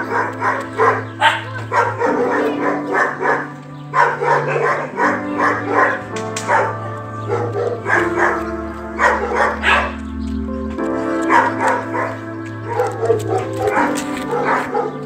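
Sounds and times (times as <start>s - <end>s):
background music with held chords: 0.0s - 15.0s.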